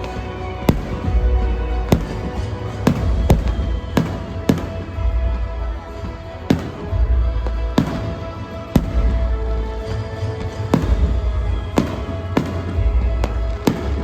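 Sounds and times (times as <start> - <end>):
fireworks bangs: 0.0 - 14.0
loud music with heavy bass: 0.0 - 14.0.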